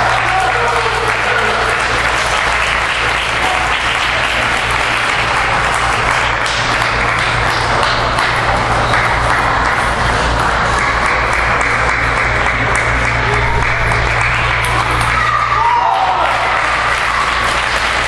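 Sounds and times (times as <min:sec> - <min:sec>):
low hum: 0:00.0 - 0:18.0
spectators applauding: 0:00.0 - 0:18.0.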